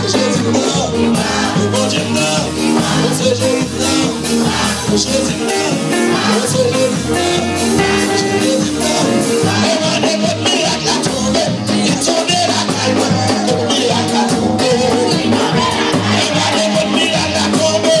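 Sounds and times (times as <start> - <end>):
bass: 0.0 - 18.0
choir singing: 0.0 - 18.0
drum beat: 0.0 - 18.0.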